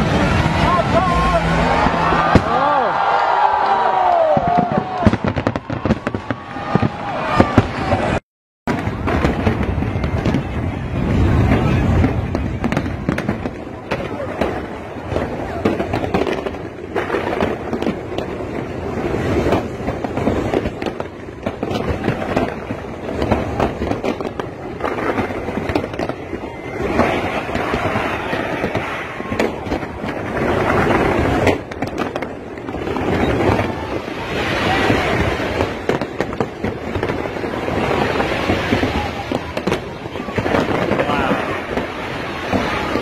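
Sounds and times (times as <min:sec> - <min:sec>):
fireworks bangs and crackling: 0:00.0 - 0:43.0.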